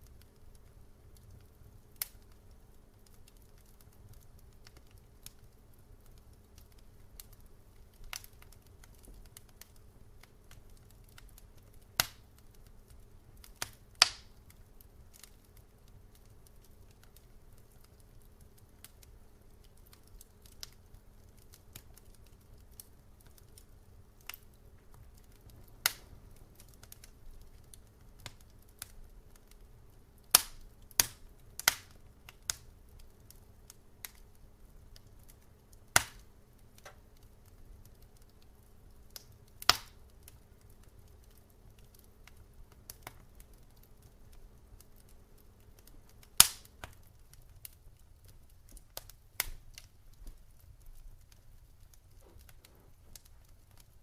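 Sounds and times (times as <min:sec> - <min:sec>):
low steady rumble: 0:00.0 - 0:54.0
wood fire crackling and popping: 0:00.0 - 0:54.0.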